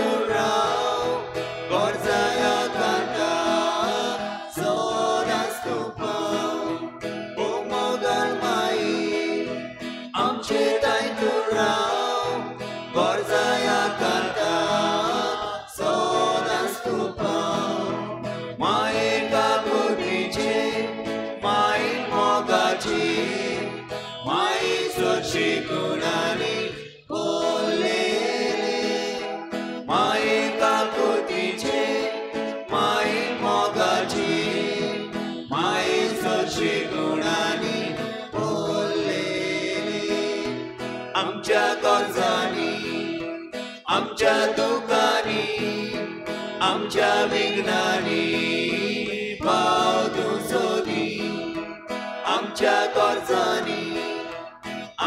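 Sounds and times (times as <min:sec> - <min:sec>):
guitar accompaniment: 0:00.0 - 0:55.0
voices singing a hymn: 0:00.0 - 0:55.0.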